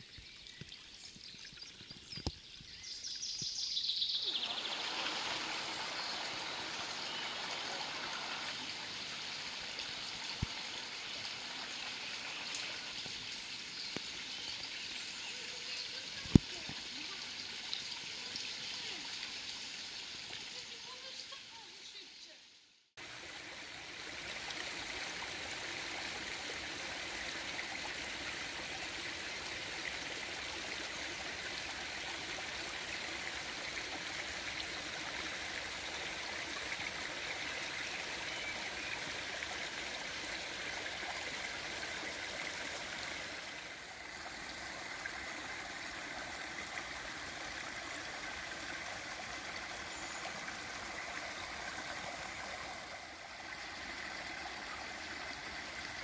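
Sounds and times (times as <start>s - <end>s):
river trickling and splashing: 0.0s - 22.3s, 23.0s - 56.0s.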